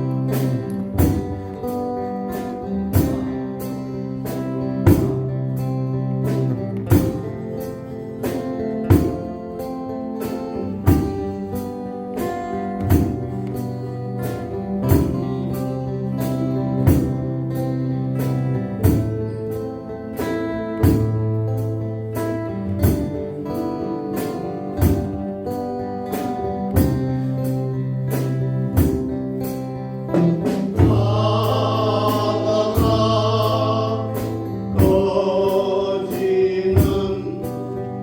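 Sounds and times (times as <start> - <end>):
live band playing slow pop: 0.0 - 38.0.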